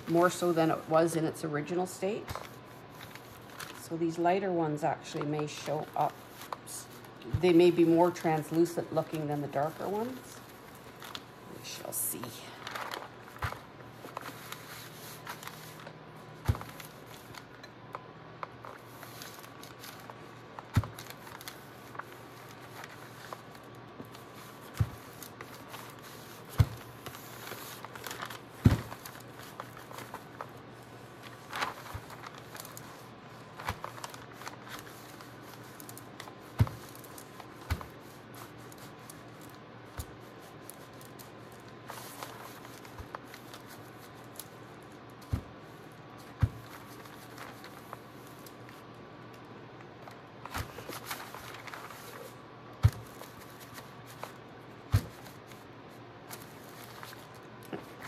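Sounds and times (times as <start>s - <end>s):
faint steady hum: 0.0s - 58.0s
packing paper crinkling: 1.6s - 4.0s, 5.0s - 58.0s.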